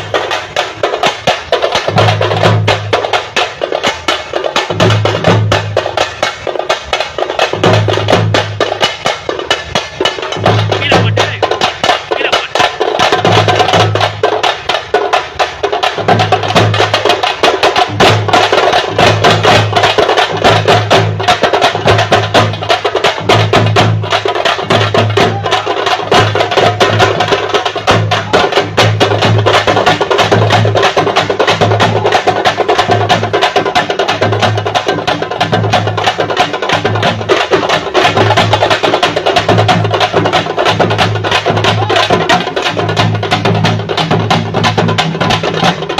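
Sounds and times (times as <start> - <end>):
frame drums beaten fast: 0.0 - 45.9.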